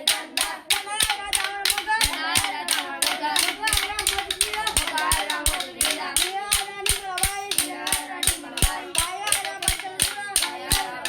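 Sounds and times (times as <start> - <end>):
children singing in chorus: 0.0 - 11.0
hand claps: 0.0 - 11.0
sticks striking: 0.0 - 11.0.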